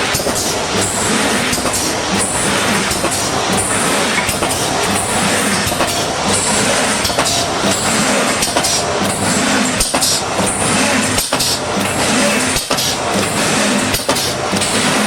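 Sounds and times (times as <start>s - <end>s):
welding machine clatter: 0.0s - 15.0s.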